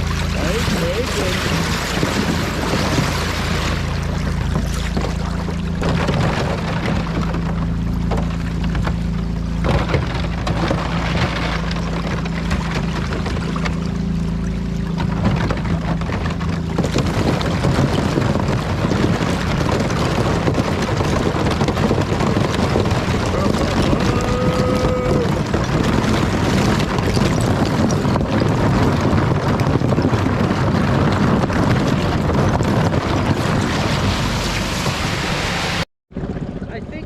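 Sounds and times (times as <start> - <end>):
water rushing past: 0.0 - 35.9
outboard motor running: 0.0 - 37.0
wind noise: 0.0 - 37.0.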